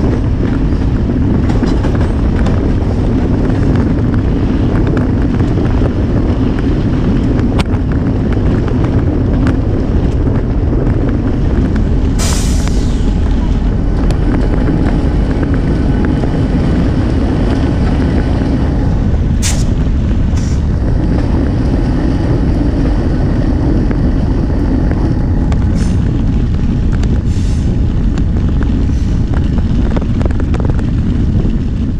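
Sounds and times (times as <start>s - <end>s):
passenger train rumbling on track: 0.0s - 31.9s.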